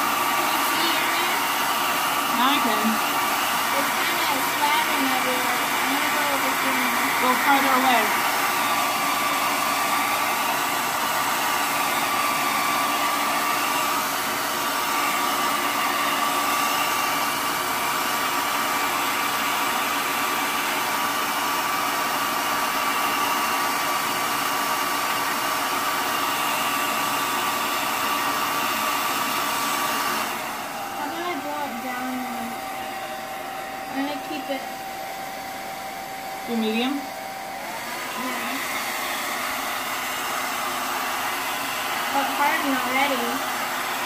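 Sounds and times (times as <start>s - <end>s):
hair dryer running: 0.0s - 44.0s.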